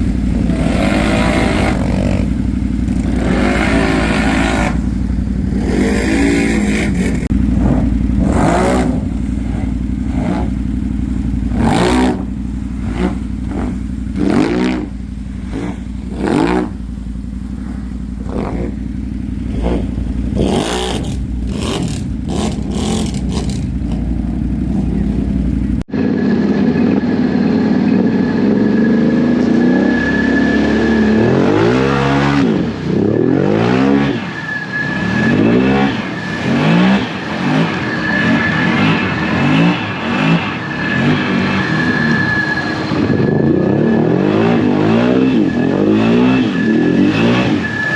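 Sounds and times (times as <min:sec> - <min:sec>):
atv engines revving: 0:00.0 - 0:47.9.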